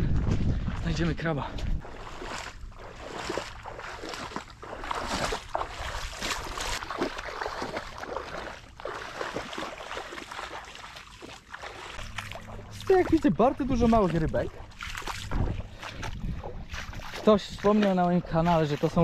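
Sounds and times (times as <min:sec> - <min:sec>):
footsteps wading through water: 0:00.0 - 0:19.0.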